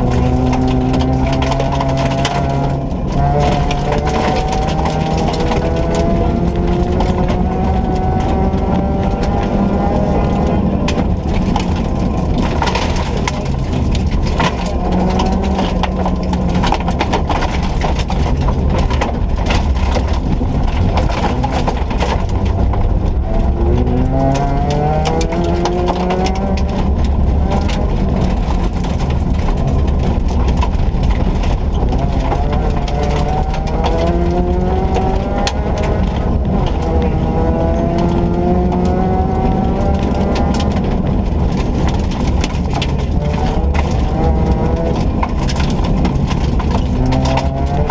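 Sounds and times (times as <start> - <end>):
rally car engine revving: 0.0 - 47.9
rattles and clatters: 0.0 - 47.9.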